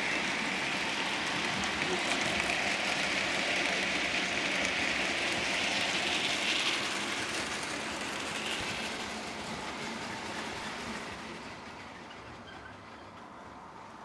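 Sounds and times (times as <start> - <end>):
model train whirring: 0.0 - 13.8.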